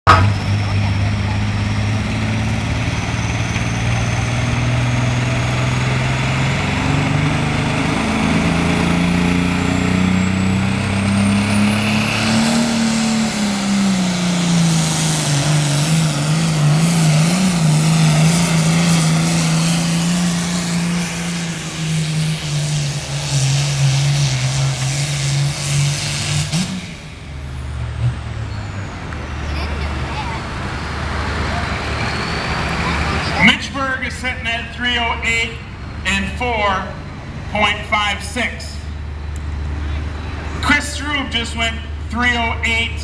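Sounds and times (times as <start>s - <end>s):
tractor diesel engine under load: 0.0s - 43.0s.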